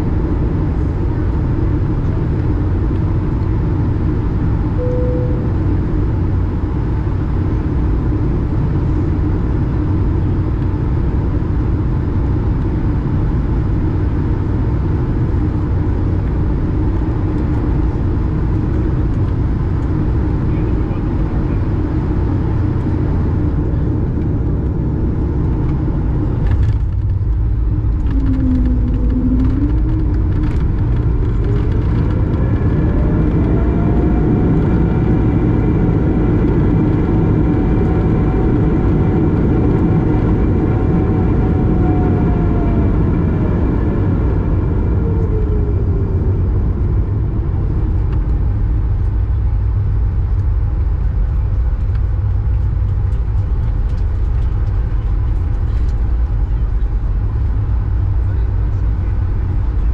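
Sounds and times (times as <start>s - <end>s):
aircraft cabin rumble: 0.0s - 59.9s
jet engine whine: 0.0s - 59.9s.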